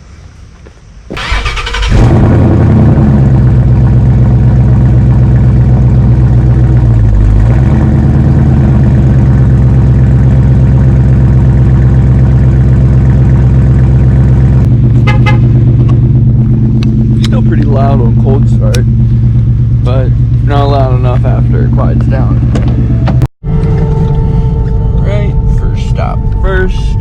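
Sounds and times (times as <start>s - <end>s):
car engine cranking: 1.1s - 26.5s
loud car engine idling: 1.2s - 26.8s.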